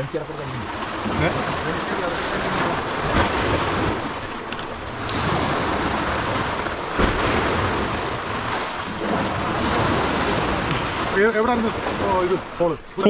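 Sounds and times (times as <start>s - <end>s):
sea surf breaking on breakwater: 0.0s - 13.0s.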